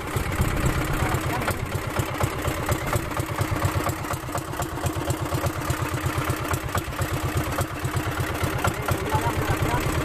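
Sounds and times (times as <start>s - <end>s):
boat engine thumping: 0.0s - 10.0s.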